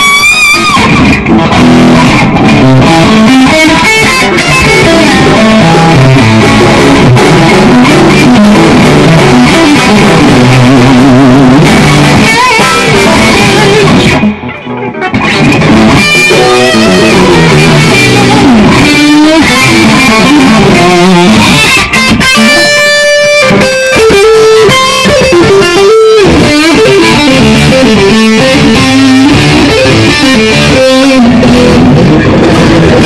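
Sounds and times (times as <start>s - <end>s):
electric guitar lead runs: 0.0s - 33.0s.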